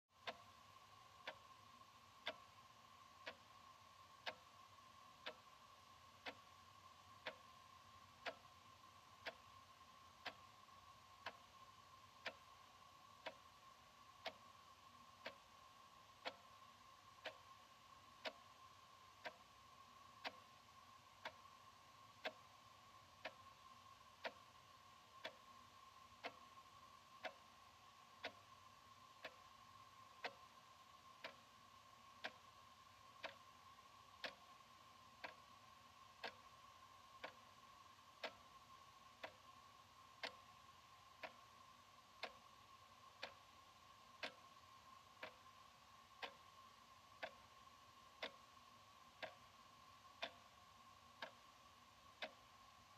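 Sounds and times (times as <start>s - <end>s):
faint steady hum: 0.1s - 52.9s
wall clock ticking: 0.1s - 52.9s.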